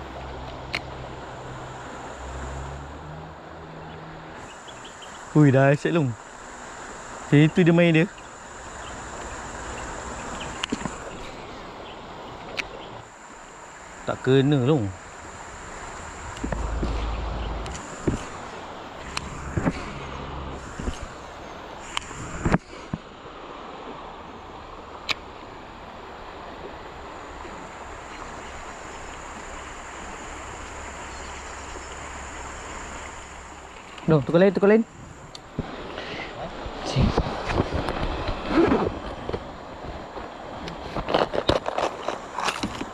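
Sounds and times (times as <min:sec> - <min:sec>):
high insect drone: 0:00.0 - 0:39.7
river water flowing: 0:00.0 - 0:42.9.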